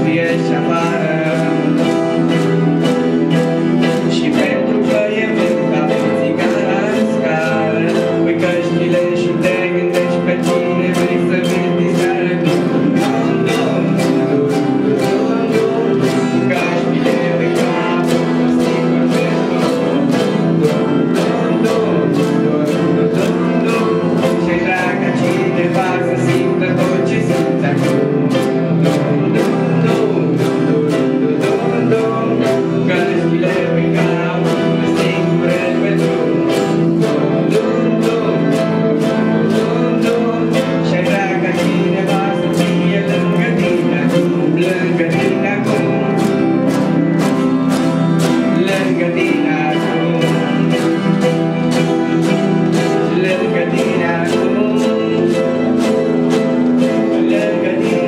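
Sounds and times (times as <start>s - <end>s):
acoustic guitars strumming: 0.0s - 58.0s
group singing together: 0.0s - 58.0s.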